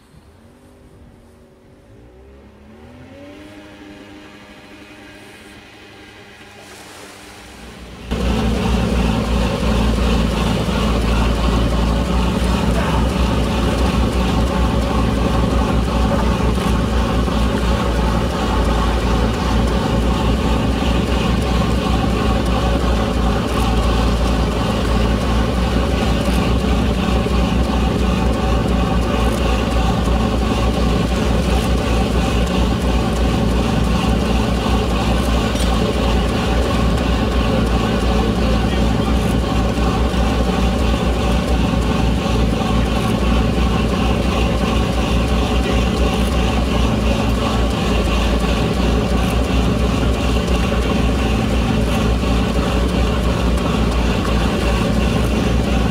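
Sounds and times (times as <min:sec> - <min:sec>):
diesel engines running: 0:00.0 - 0:55.9.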